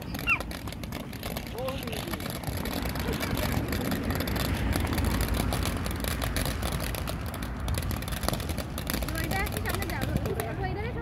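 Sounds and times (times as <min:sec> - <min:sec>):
fountain firework hissing and crackling: 0:00.0 - 0:11.0.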